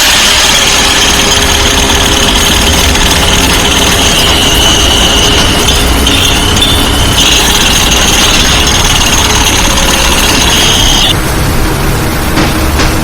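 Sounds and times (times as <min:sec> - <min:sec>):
construction machinery rumble: 0:00.0 - 0:13.0
high steady whine: 0:00.0 - 0:13.0.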